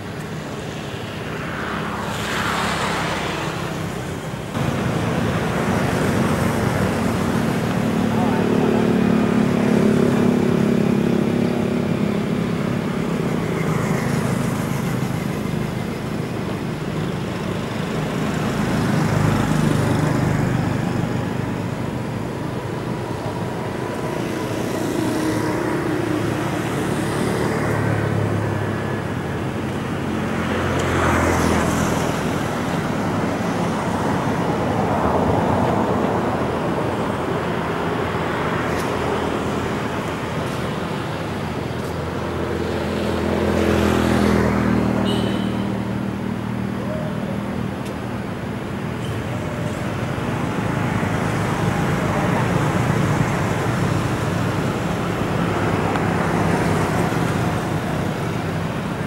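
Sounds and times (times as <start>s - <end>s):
passing vehicle engines humming: 0.0s - 59.0s.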